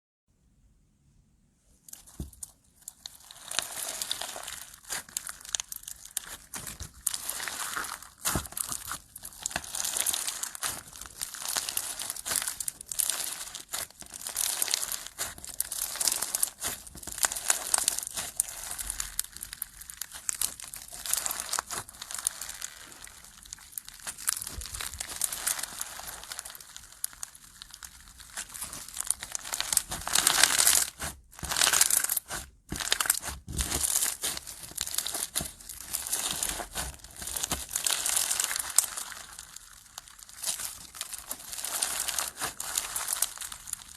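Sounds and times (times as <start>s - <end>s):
slime squished by hand: 1.8s - 43.9s.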